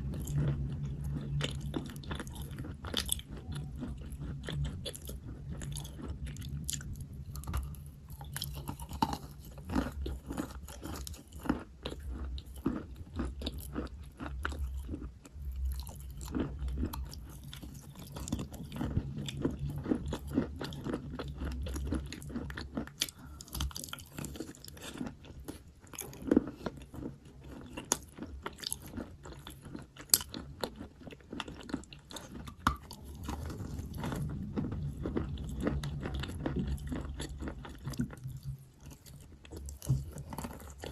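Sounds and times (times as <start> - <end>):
chewing chalk: 0.0 - 40.9.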